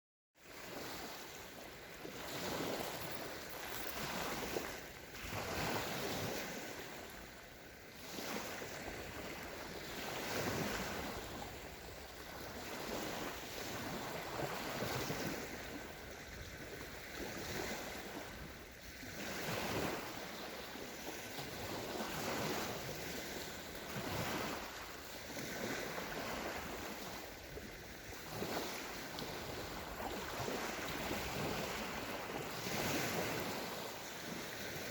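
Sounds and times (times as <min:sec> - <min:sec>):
sea waves breaking on sand: 0:00.4 - 0:34.9
wind on microphone: 0:00.5 - 0:34.9.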